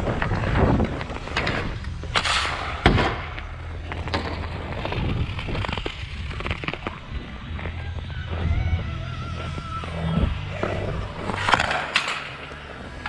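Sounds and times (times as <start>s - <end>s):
skates scraping on ice: 0.0s - 13.0s.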